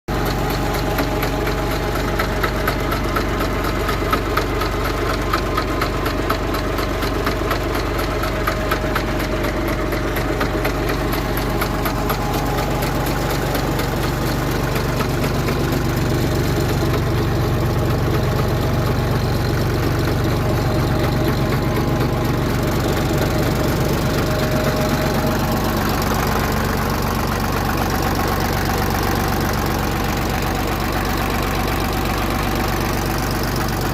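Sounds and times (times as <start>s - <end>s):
vehicle engine running: 0.1s - 33.9s.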